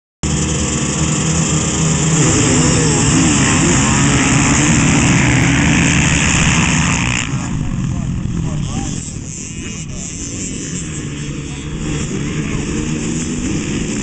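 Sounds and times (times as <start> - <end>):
dirt bikes revving: 0.2 - 14.0.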